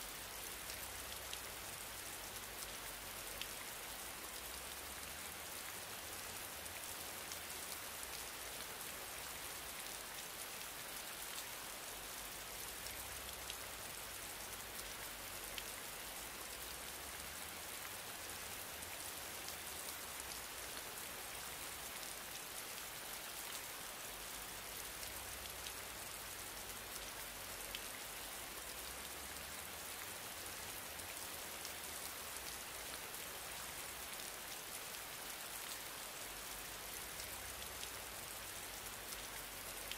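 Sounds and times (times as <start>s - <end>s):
steady rain-like hiss: 0.0s - 39.9s.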